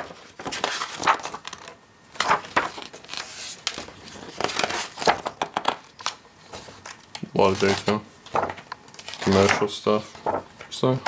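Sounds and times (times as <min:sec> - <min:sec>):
book pages turning: 0:00.0 - 0:11.0.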